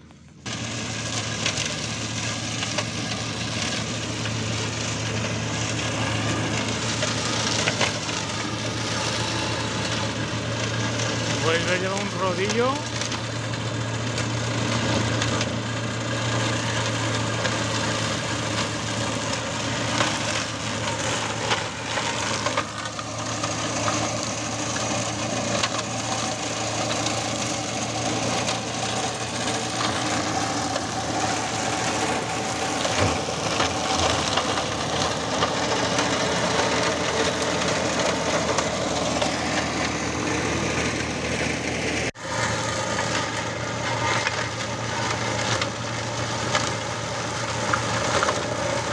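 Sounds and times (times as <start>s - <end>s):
mulcher shredding branches: 0.0s - 48.9s
tractor engine running: 0.0s - 48.9s.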